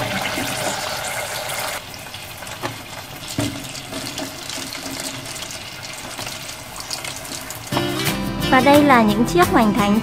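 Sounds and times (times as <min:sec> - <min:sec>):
food deep-frying in oil: 0:00.0 - 0:08.1.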